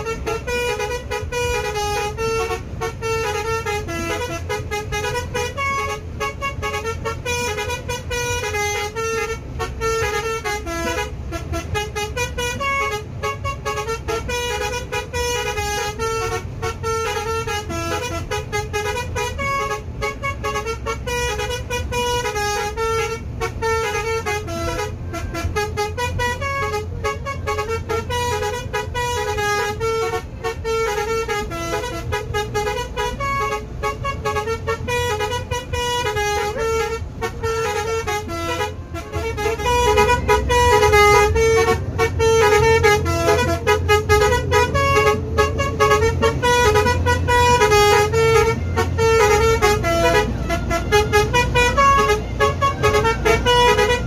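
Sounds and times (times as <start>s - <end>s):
bus air horn melody: 0.0s - 54.0s
bus engine rumble: 0.0s - 54.0s.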